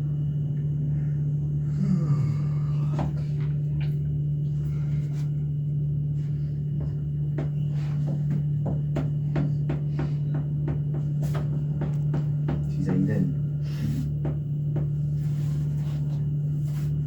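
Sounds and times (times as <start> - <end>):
lift hum with high whine: 0.0 - 17.0.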